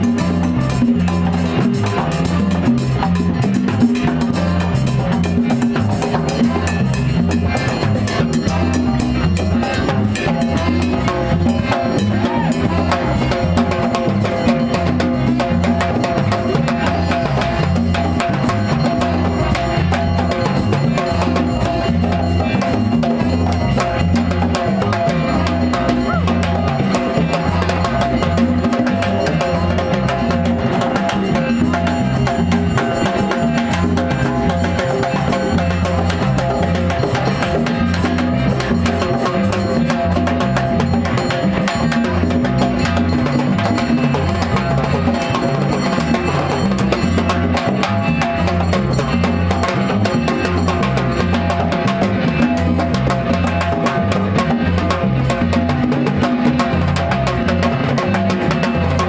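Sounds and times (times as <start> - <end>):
bass line: 0.0 - 59.0
drum kit: 0.0 - 59.0
live band playing: 0.0 - 59.0.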